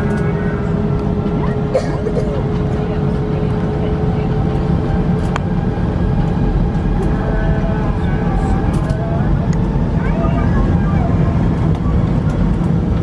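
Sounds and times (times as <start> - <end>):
jet engines roaring on takeoff: 0.0 - 13.0.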